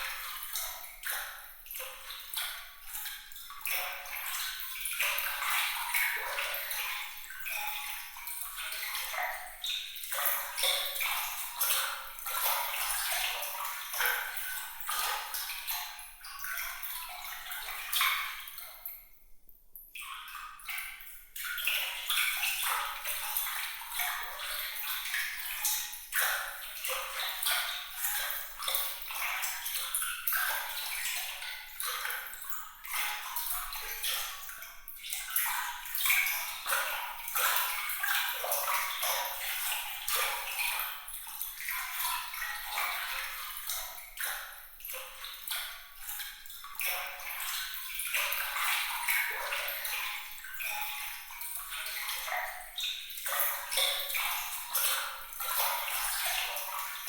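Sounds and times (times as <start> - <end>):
water trickling and splashing: 0.0 - 19.2, 19.8 - 57.0.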